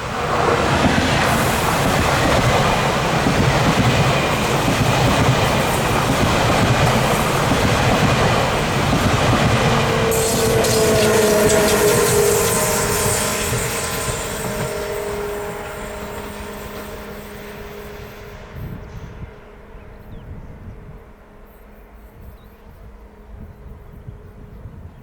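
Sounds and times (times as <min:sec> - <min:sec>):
train running on rails: 0:00.0 - 0:25.0
train wheel squeal: 0:00.3 - 0:24.8.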